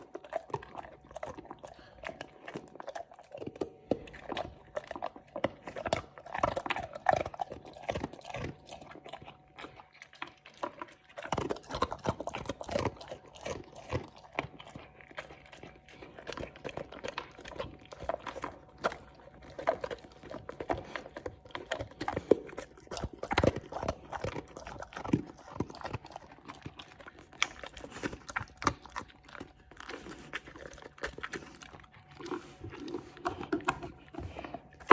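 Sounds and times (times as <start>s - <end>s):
dog crunching biscuits: 0.0s - 34.9s.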